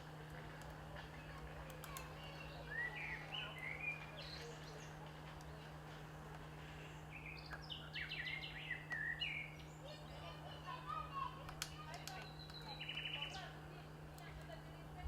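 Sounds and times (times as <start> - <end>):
small birds chirping: 0.1 - 14.8.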